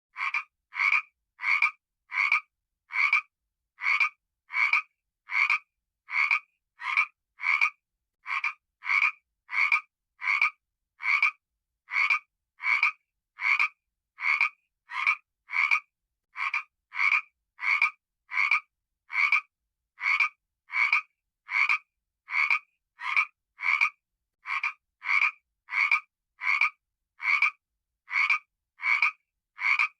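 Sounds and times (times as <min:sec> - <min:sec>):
frog croaking: 0:00.1 - 0:29.9.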